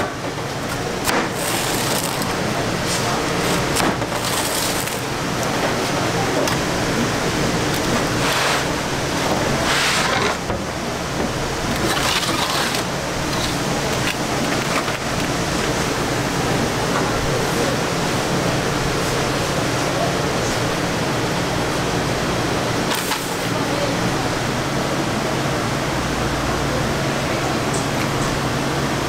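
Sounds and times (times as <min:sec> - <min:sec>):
constant roar: 0:00.0 - 0:29.0.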